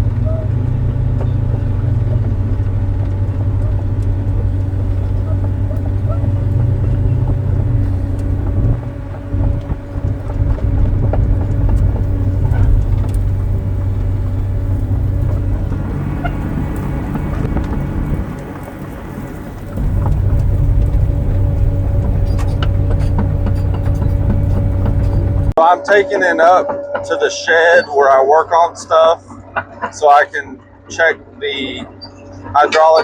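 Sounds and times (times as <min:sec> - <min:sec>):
excavator diesel engine running: 0:00.0 - 0:33.0
steady whine: 0:00.0 - 0:33.0.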